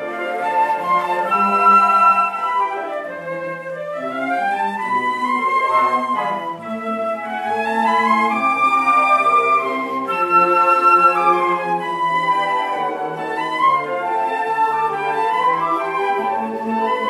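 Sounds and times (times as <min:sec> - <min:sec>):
flute orchestra playing: 0:00.0 - 0:17.0.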